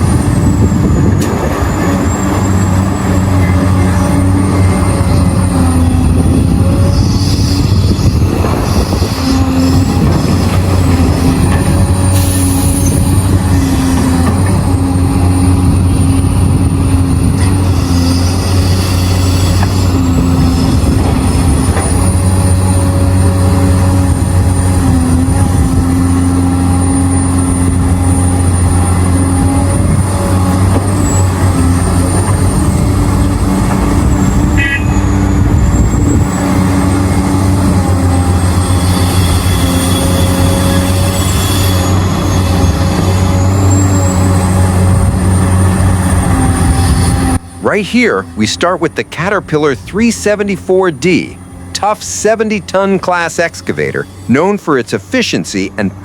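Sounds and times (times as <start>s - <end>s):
heavy diesel engines droning: 0.0s - 56.0s.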